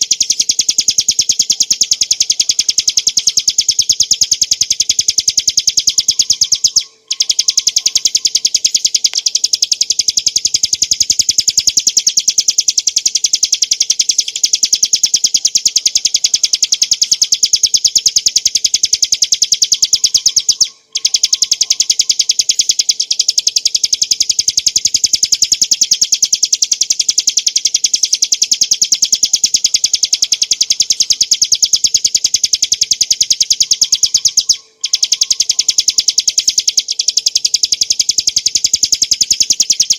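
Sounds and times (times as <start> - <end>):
prinia singing fast trill: 0.0 - 39.9.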